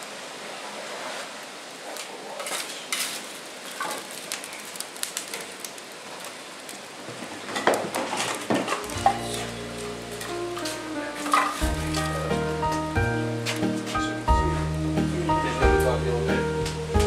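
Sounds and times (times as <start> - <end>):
sap boiling with hiss: 0.0 - 17.0.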